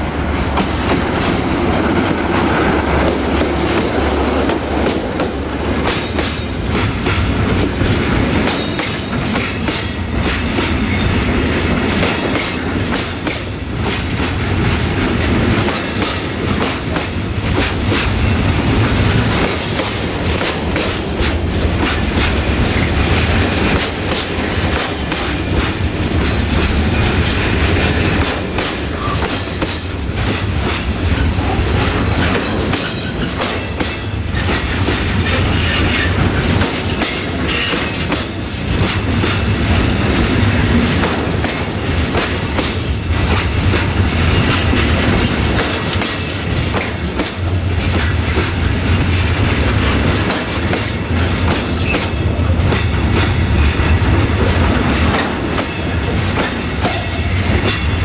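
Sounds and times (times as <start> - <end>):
low train rumble: 0.0 - 58.0
train wheels clattering over rail joints: 0.0 - 58.0.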